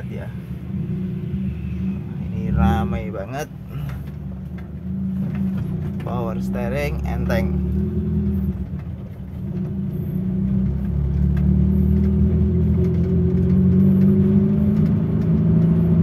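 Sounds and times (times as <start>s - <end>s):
car engine running: 0.0s - 16.0s
road noise: 0.0s - 16.0s.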